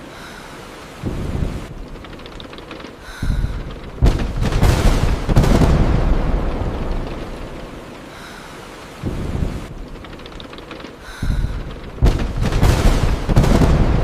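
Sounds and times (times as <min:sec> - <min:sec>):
steady rain: 0:00.0 - 0:14.0
thunder rumbling: 0:01.0 - 0:14.0.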